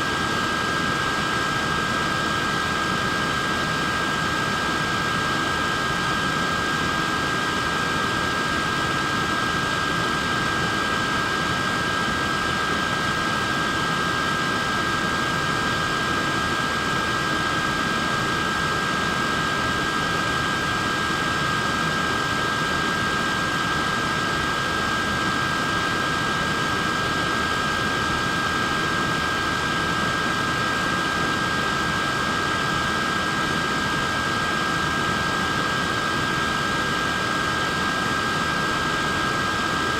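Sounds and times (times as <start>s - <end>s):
neck fan air rush and motor whine: 0.0s - 39.9s.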